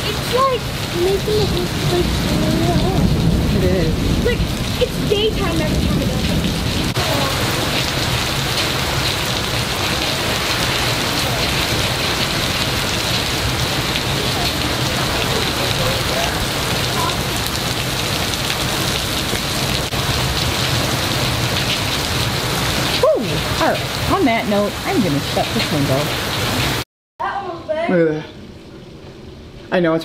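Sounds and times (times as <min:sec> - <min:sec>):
heavy rain pouring: 0:00.0 - 0:26.8.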